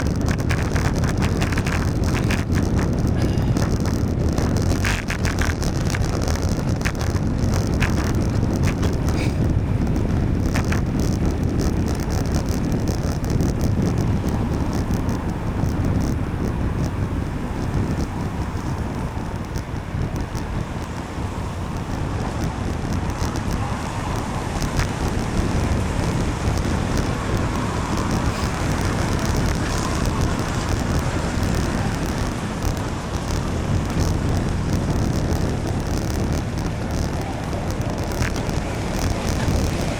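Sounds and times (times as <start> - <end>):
traffic: 0.0 - 39.9
wet tyres on road: 0.0 - 39.9
wind on microphone: 0.0 - 39.9.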